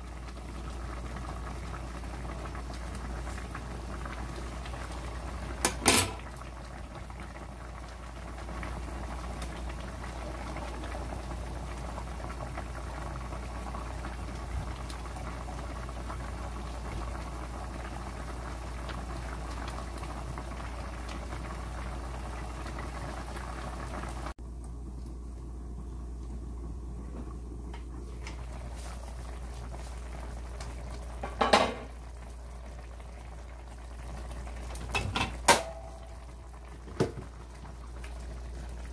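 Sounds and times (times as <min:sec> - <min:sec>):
stew bubbling in pot: 0:00.0 - 0:38.9.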